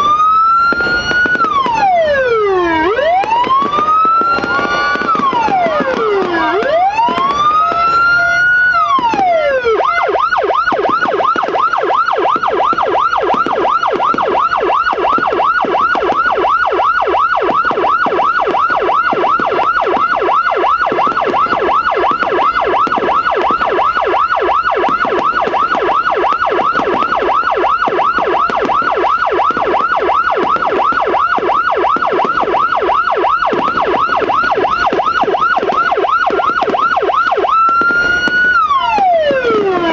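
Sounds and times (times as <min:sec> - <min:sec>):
electronic siren wailing and yelping: 0:00.0 - 0:39.9.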